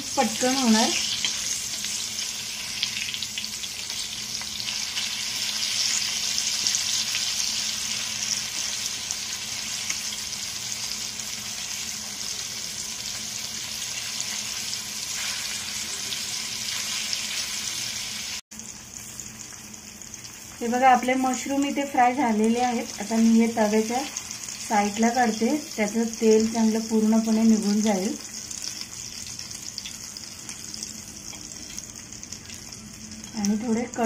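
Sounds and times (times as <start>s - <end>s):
mushrooms sizzling in hot oil: 0.0s - 34.0s.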